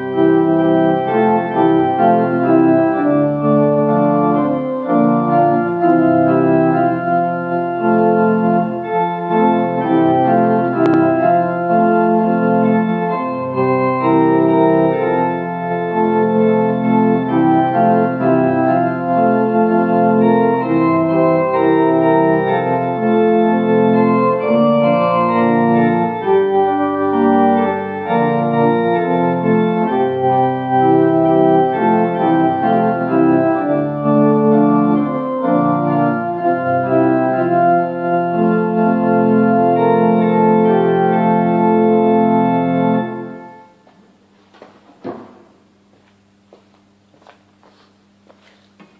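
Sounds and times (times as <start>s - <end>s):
church organ playing a hymn: 0.0s - 43.9s.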